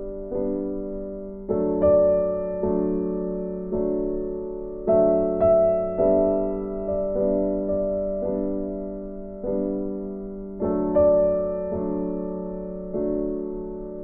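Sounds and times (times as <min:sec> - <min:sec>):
slow soft piano music: 0:00.0 - 0:14.0.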